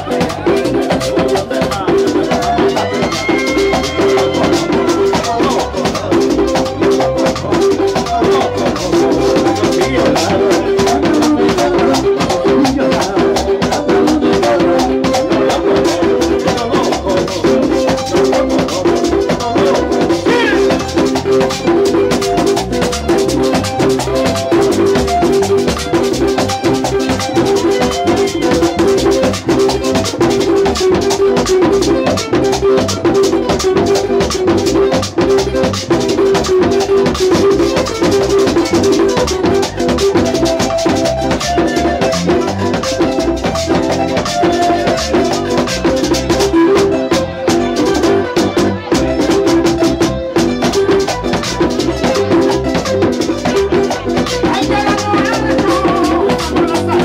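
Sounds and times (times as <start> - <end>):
latin dance music with drums: 0.0 - 57.0.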